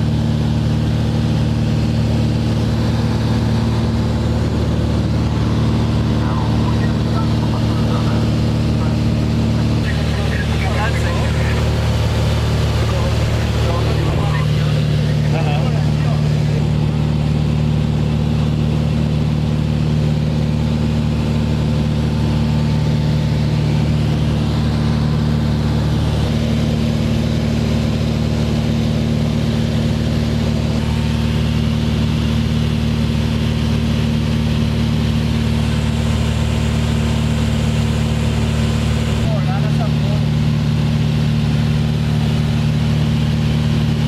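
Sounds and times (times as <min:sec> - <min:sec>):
propeller plane engine droning: 0:00.0 - 0:44.0.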